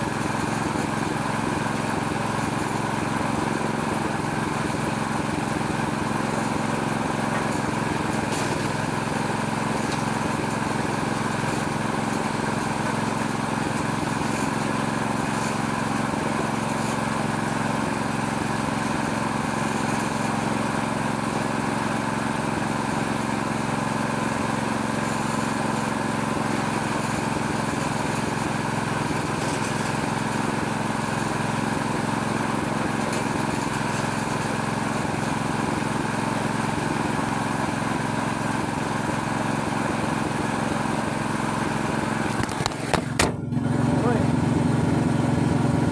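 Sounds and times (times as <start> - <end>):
small petrol engine running: 0.0 - 45.9.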